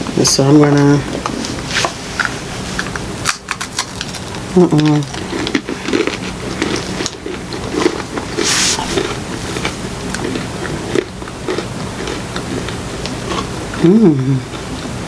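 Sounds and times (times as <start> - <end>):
chewing crunchy pretzels: 0.7 - 15.0.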